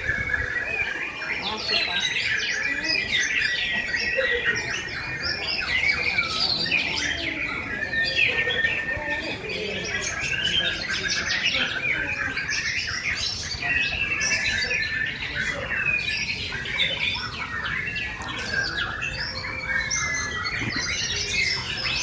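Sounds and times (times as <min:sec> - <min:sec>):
many songbirds singing: 0:00.0 - 0:22.0.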